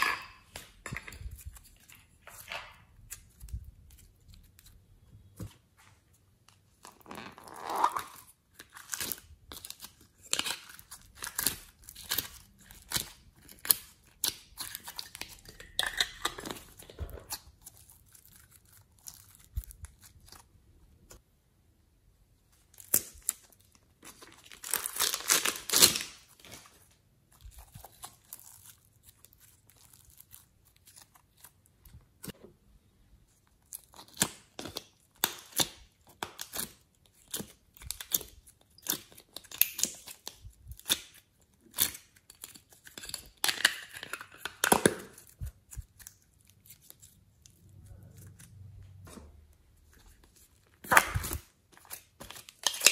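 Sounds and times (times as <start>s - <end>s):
clay crackling and tearing: 6.8s - 21.2s, 22.6s - 32.4s, 33.3s - 48.8s, 49.6s - 52.9s.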